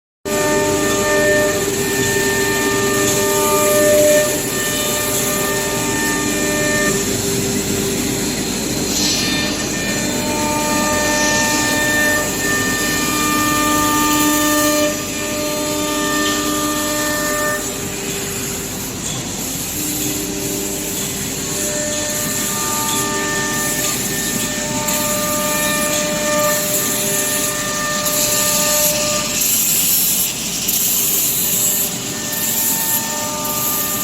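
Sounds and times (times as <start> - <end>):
machine motors whining: 0.3 - 34.0.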